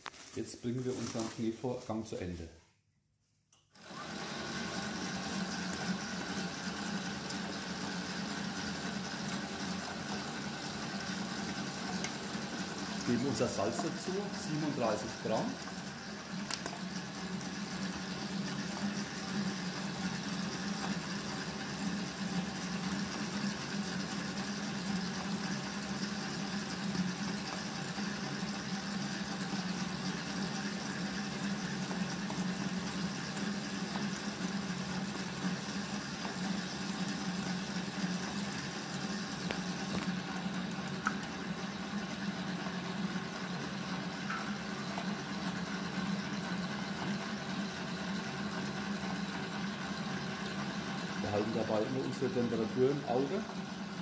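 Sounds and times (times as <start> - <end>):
dough mixer humming: 3.7 - 54.0.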